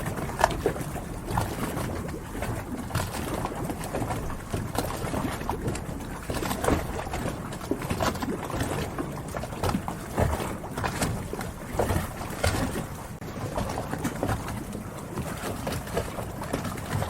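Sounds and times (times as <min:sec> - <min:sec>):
low water wash: 0:00.0 - 0:17.0
water knocking and slapping boats: 0:00.0 - 0:17.0.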